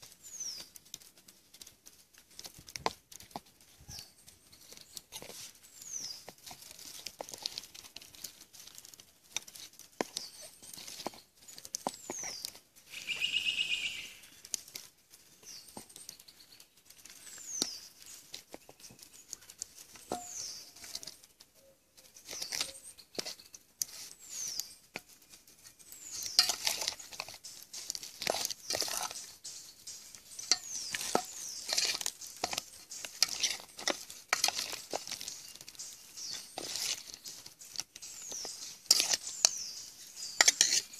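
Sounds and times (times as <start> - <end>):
hands mixing meat in metal bowl: 1.6 - 40.9.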